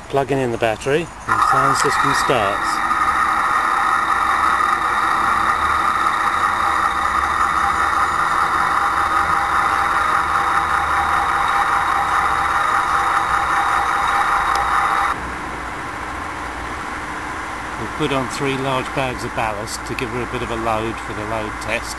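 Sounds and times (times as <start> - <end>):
diesel engine idling through small speaker: 1.2 - 15.2, 17.7 - 21.9.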